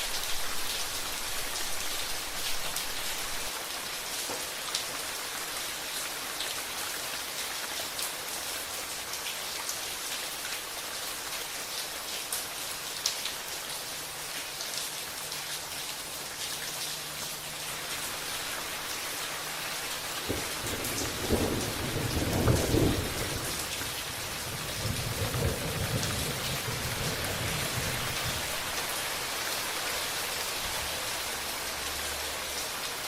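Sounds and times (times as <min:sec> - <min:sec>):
rain drops pattering: 0:00.0 - 0:33.0.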